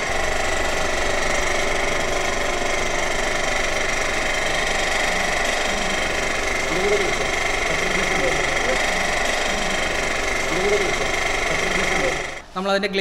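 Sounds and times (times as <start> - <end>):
machinery rattling: 0.0 - 12.5.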